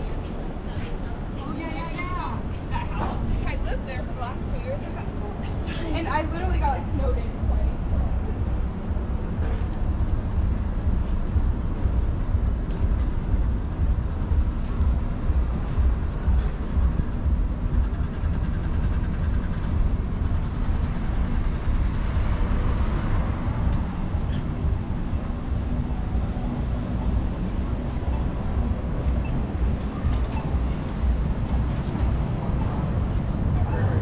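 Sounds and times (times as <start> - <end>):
bicycle road noise: 0.0 - 34.0
wind buffeting microphone: 0.0 - 34.0.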